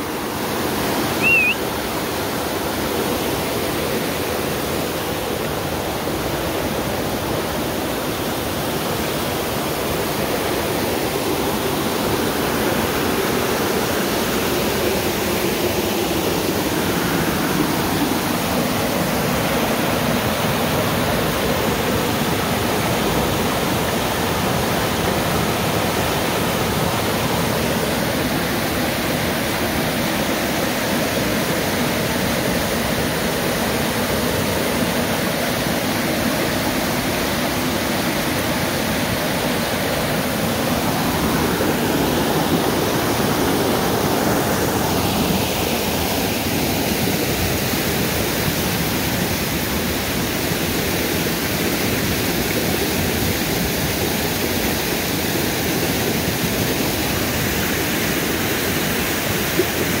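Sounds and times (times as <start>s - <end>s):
river rushing loudly: 0.0s - 60.0s.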